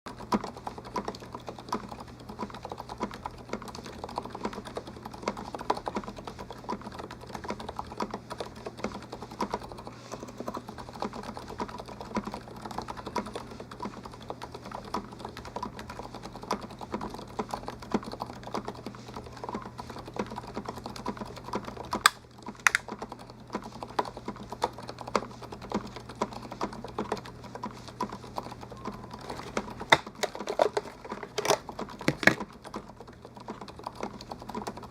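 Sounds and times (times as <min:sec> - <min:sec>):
fast keyboard typing: 0:00.1 - 0:34.9.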